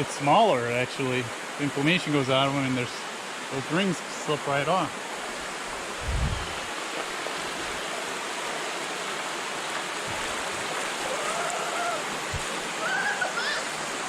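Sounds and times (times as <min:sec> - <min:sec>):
river water and waterfall rushing: 0:00.0 - 0:14.0.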